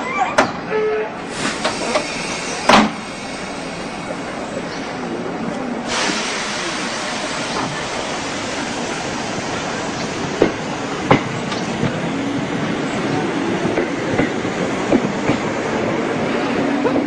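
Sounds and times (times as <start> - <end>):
electric train rolling rumble: 0.5 - 17.0.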